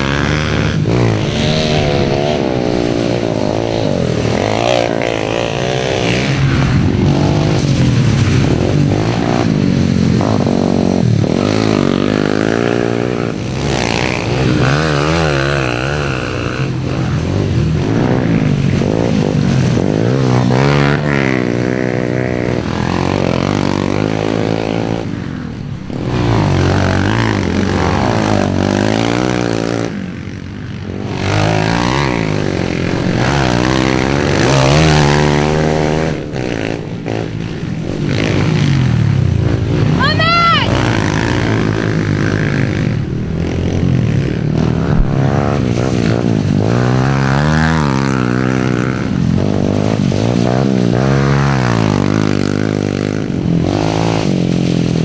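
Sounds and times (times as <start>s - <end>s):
pit bike engines revving: 0.0s - 55.0s.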